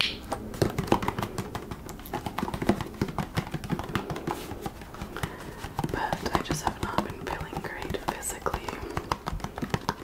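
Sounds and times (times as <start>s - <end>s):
fingernails tapping on carton: 0.2s - 10.0s.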